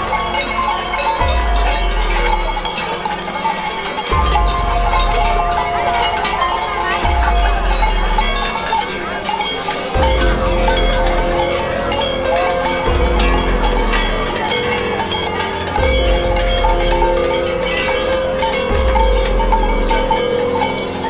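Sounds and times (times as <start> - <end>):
deep booming pulse: 0.0 - 3.0, 4.1 - 20.8
cowbells clanging: 0.0 - 21.0.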